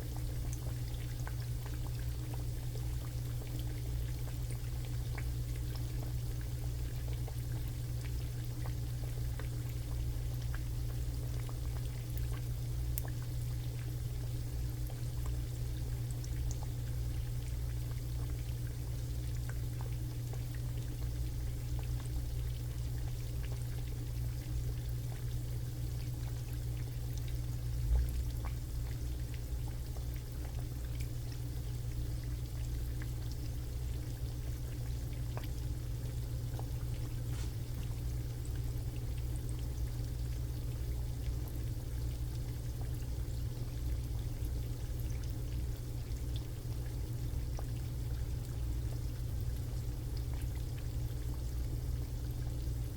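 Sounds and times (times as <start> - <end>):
food frying in oil: 0.0 - 52.9
steady low hum: 0.0 - 52.9.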